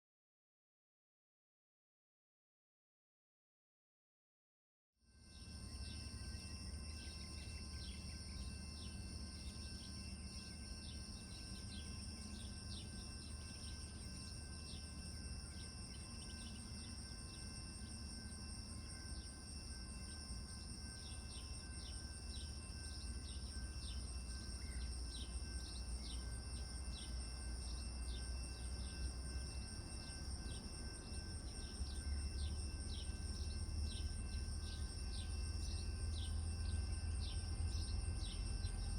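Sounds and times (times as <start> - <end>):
insects trilling: 5.3 - 38.9.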